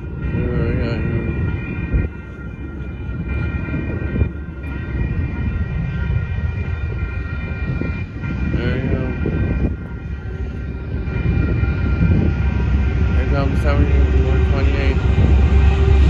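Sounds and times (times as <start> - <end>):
crossing warning bell ringing: 0.0 - 16.0
low rumble: 0.0 - 16.0.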